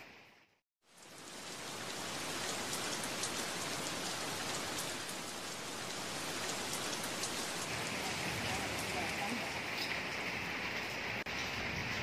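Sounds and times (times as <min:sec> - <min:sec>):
patter of raindrops: 0:00.0 - 0:12.0
steady rain hiss: 0:00.0 - 0:12.0.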